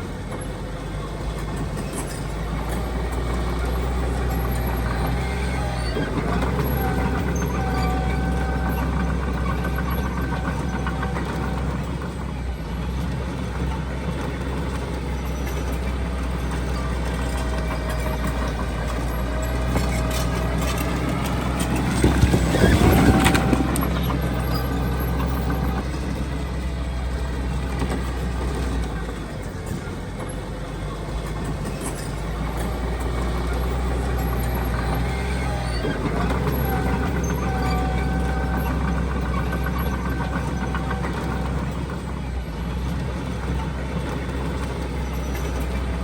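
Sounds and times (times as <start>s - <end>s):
diesel machinery engine drone: 0.0s - 46.0s
machinery clatter: 0.0s - 46.0s.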